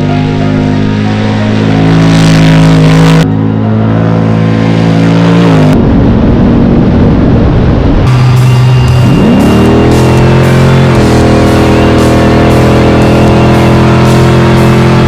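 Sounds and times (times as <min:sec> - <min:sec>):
race truck engine at high revs: 0:00.0 - 0:15.0.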